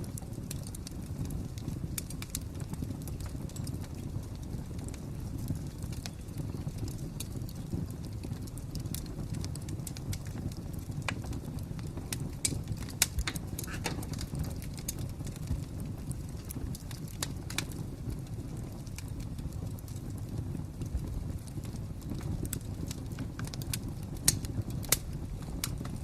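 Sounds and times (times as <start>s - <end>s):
low fire rumble: 0.0s - 26.0s
wood fire popping and snapping: 0.0s - 26.0s.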